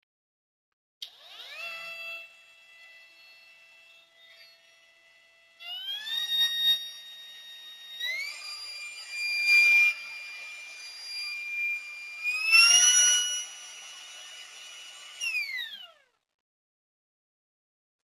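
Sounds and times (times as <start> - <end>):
router motor whining: 1.0 - 16.2.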